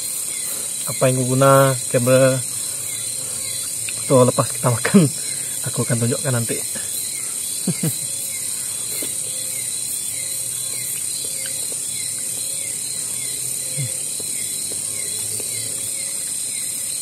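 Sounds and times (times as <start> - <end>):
insect buzz: 0.0 - 17.0.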